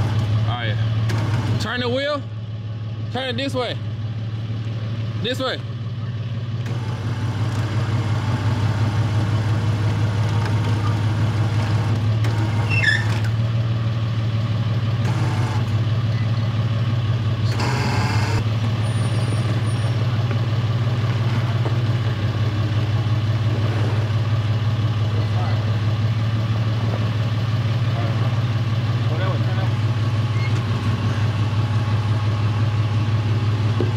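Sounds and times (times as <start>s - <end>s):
truck engine running: 0.0s - 33.9s.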